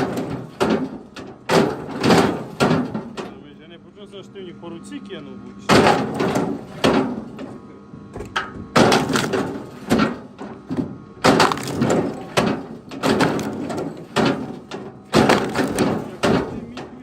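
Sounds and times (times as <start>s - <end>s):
firewood clunking onto pile: 0.0s - 3.4s, 5.7s - 17.0s.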